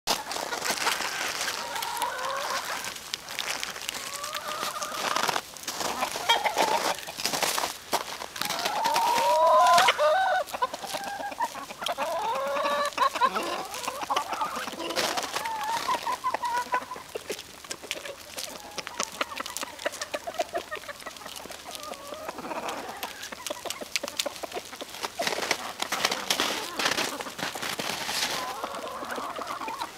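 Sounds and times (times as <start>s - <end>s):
chickens clucking: 0.1s - 29.9s.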